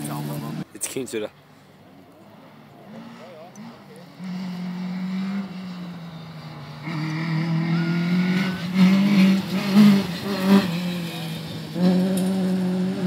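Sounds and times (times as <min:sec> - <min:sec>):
rally car engine revving: 0:00.0 - 0:00.7, 0:02.8 - 0:13.0.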